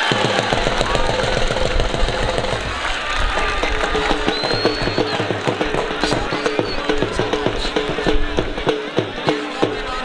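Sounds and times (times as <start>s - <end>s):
crowd noise: 0.0s - 10.0s
fast drum beating: 0.0s - 10.0s.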